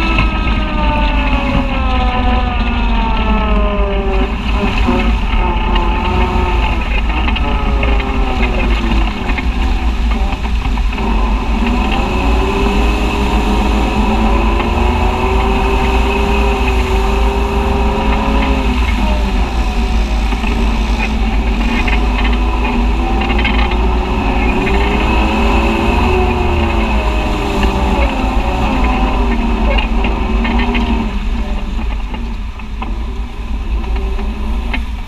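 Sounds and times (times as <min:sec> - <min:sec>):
utv engine running: 0:00.0 - 0:35.0
wind rumble on microphone: 0:00.0 - 0:35.0.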